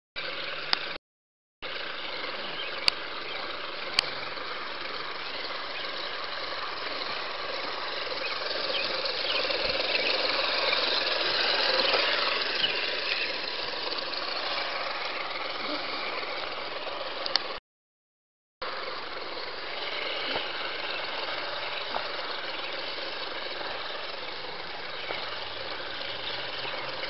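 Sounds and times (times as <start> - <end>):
electric motor and gears whining: 0.2 - 1.0, 1.6 - 17.6, 18.6 - 27.0.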